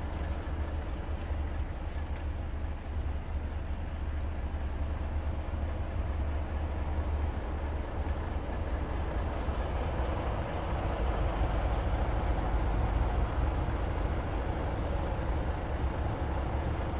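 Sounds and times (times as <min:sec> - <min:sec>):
diesel truck engine rumbling: 0:00.0 - 0:16.9.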